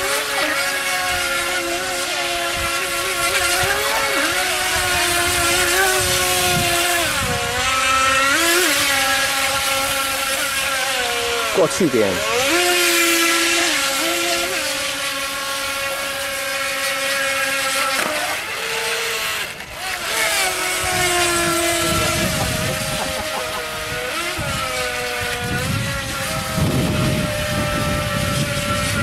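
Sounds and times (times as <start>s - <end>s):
model speedboat motors whining: 0.0s - 29.0s.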